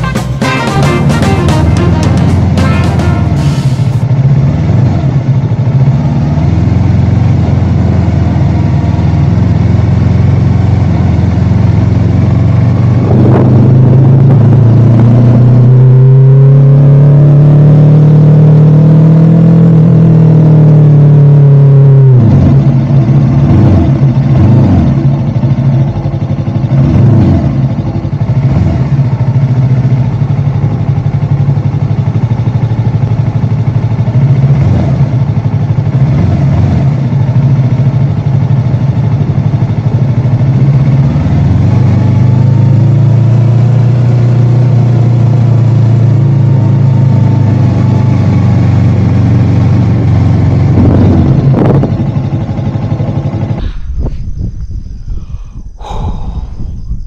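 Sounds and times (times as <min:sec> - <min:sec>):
motorcycle engine running: 0:00.0 - 0:55.6.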